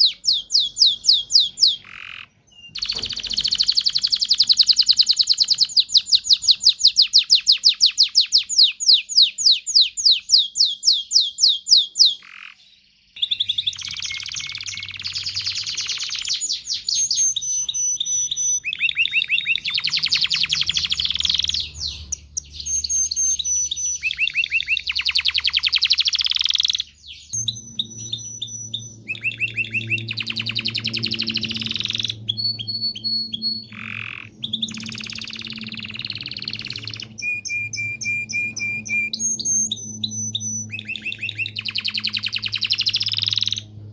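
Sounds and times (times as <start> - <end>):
canary singing trills and chirps: 0.0 - 43.9.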